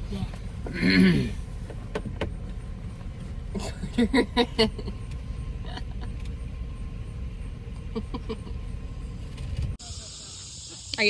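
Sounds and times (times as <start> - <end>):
road rumble inside moving vehicle: 0.0 - 11.0.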